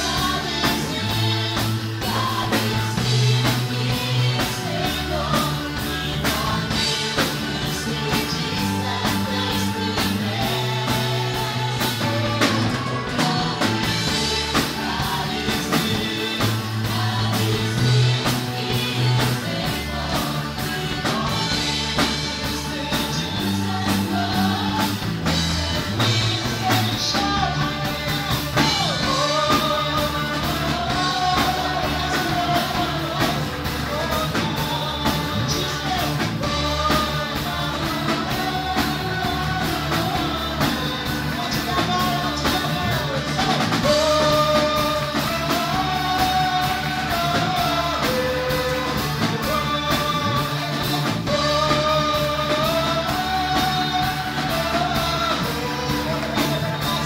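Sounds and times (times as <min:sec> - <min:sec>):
drum kit beat: 0:00.0 - 0:57.0
live band playing upbeat song: 0:00.0 - 0:57.0
person singing: 0:00.0 - 0:57.0.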